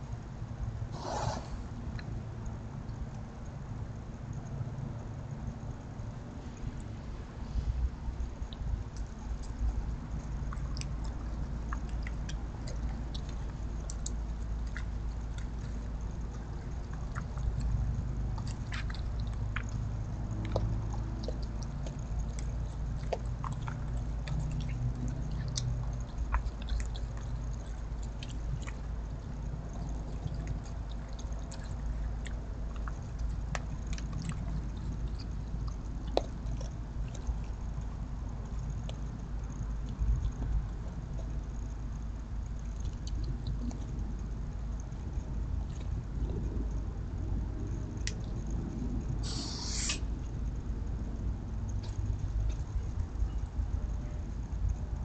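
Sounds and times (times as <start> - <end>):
animal chewing and crunching: 0.0 - 55.0
steady low hum: 0.0 - 55.0.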